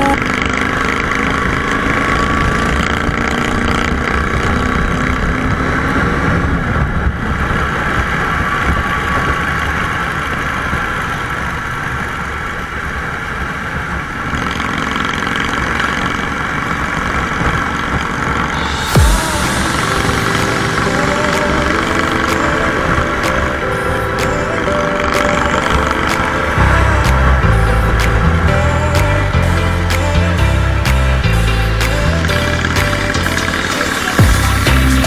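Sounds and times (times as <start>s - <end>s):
wind and road noise: 0.2s - 34.8s.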